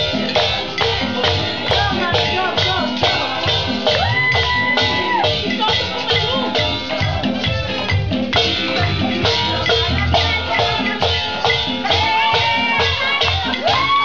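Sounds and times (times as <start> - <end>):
latin dance music: 0.0 - 14.0
maracas: 0.0 - 14.0
percussion beat: 0.0 - 14.0.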